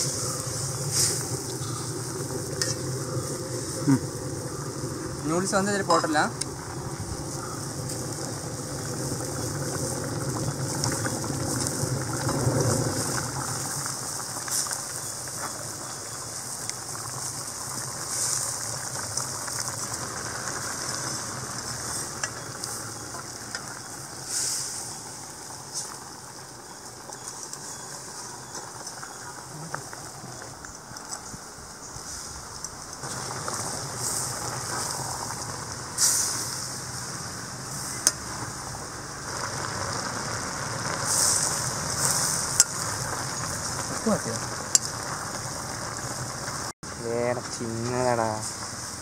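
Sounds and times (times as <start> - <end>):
stock boiling with steady hiss: 0.0 - 49.0.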